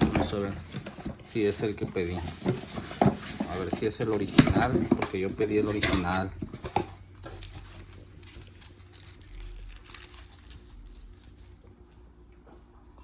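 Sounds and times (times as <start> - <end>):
plastic packaging rustling: 0.0 - 12.0
low steady hum: 0.0 - 13.0.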